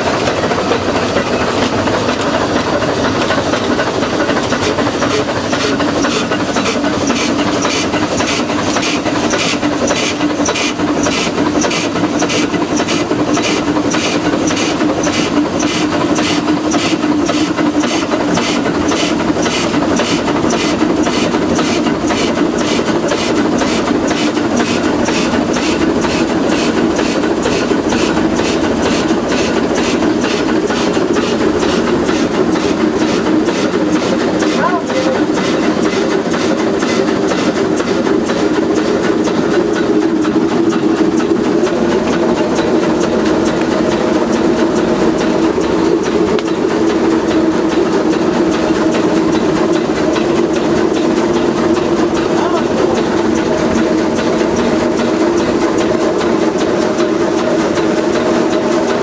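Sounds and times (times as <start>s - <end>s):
steam exhaust chuffs: 0.0s - 59.0s
steam locomotive hiss and rumble: 0.0s - 59.0s.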